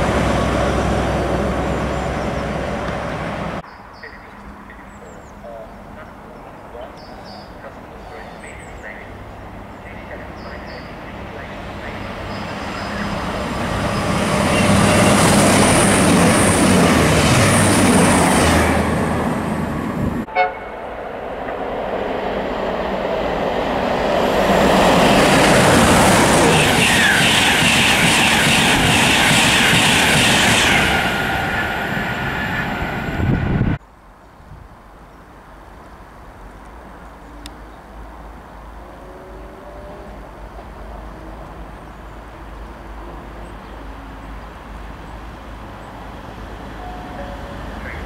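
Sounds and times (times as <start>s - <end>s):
train passing at speed: 0.0s - 33.8s, 35.3s - 48.0s.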